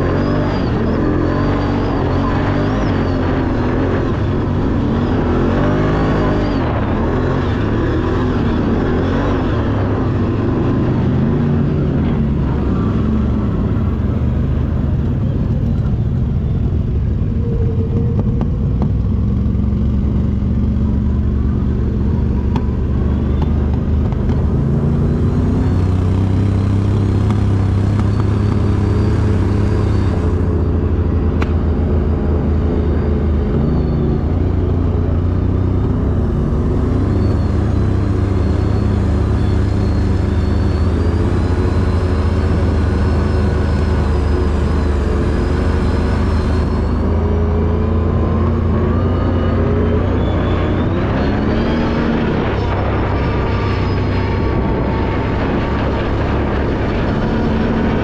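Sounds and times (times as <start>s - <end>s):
vehicle engine revving: 0.0s - 58.0s.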